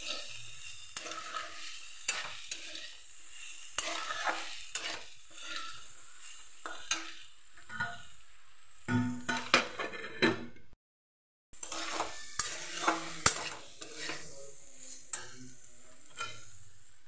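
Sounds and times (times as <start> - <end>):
food sizzling: 0.0 - 9.9, 11.6 - 17.0
metal spatula scraping a pan: 0.0 - 10.4, 11.6 - 17.0.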